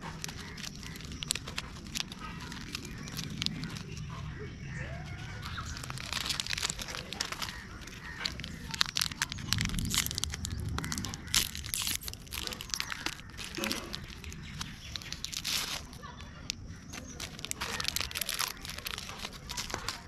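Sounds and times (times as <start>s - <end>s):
plastic wrapper crinkling and tearing: 0.0s - 20.0s.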